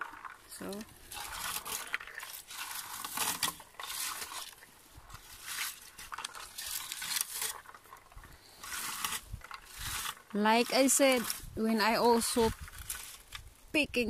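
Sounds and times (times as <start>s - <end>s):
rustling swishes of leaves and twigs: 0.0s - 13.8s.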